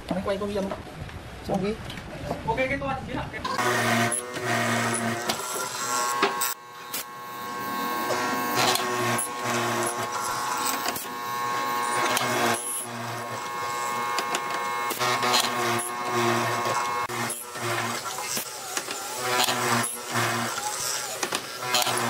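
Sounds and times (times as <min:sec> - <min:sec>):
drilling machine whining: 0:03.5 - 0:22.0.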